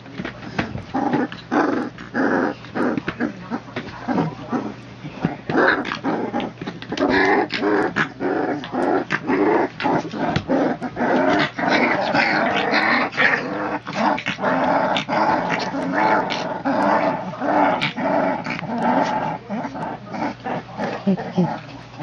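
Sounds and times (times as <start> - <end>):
puppies growling in play: 0.0 - 22.0.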